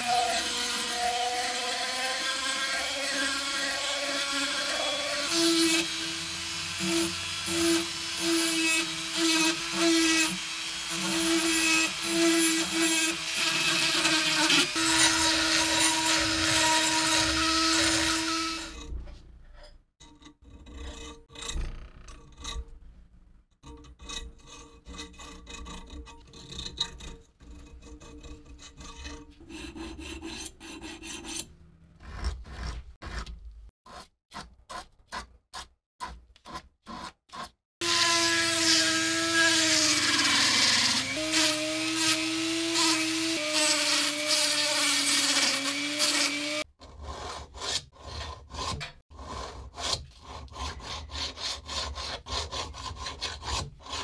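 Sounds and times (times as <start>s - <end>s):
hand file scraping iron: 0.0s - 22.8s, 23.6s - 54.0s
rotary tool grinding metal: 0.0s - 22.8s, 23.6s - 33.3s, 37.8s - 54.0s.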